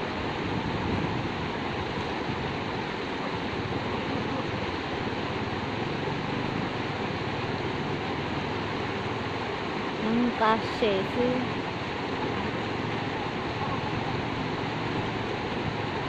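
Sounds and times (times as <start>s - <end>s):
river rushing over stones: 0.0s - 16.0s.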